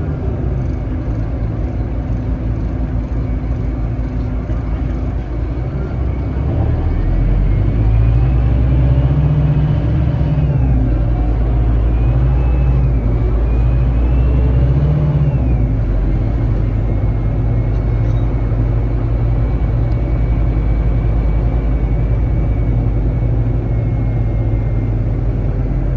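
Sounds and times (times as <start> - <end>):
bus diesel engine accelerating: 0.0 - 25.9.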